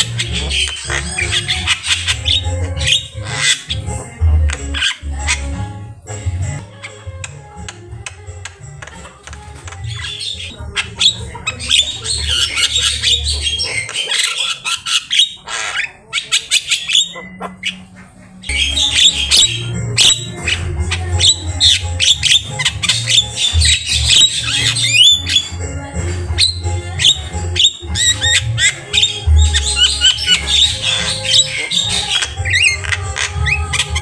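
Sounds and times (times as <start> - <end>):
myna singing squawks and whistles: 0.0 - 5.6, 9.8 - 34.0.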